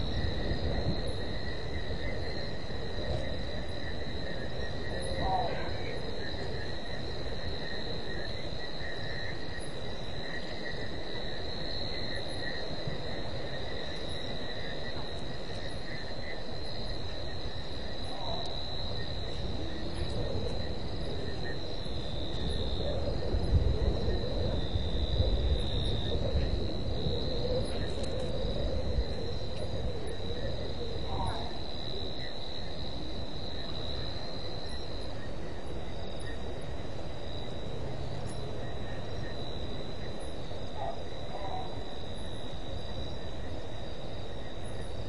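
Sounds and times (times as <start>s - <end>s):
insects trilling: 0.0s - 45.0s
low insect trill: 0.0s - 45.0s.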